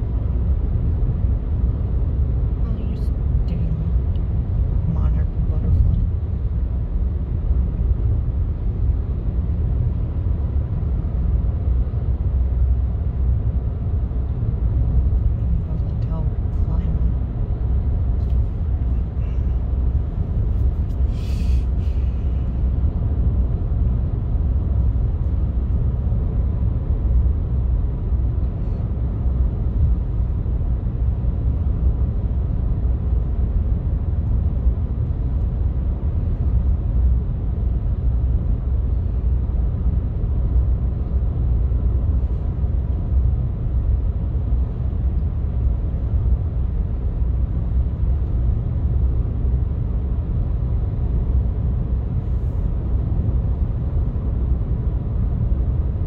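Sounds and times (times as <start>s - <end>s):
road noise inside moving vehicle: 0.0s - 56.0s.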